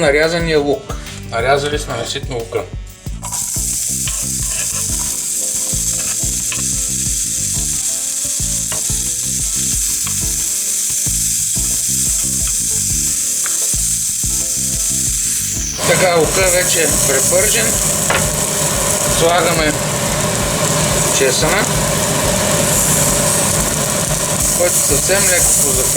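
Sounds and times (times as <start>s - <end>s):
onion sizzling in oil: 3.2s - 25.9s.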